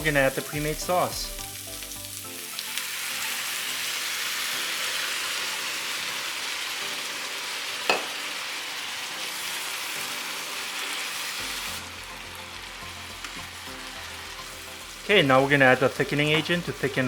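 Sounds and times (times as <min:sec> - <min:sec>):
noodles sizzling in a pan: 0:00.0 - 0:17.0.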